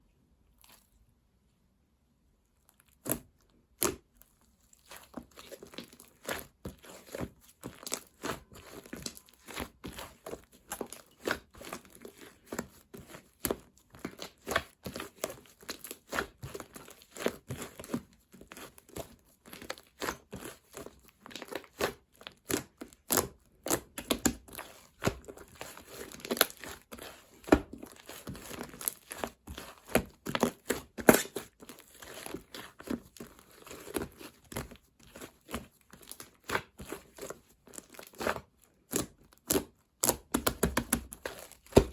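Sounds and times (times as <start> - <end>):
slime squished by hand: 2.7 - 41.9.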